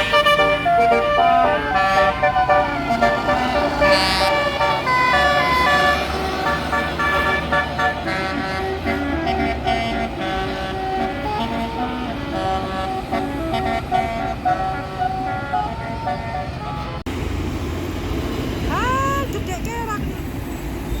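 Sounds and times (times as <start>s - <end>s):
bus horn playing a melody: 0.0s - 17.1s
low engine rumble: 0.0s - 21.0s.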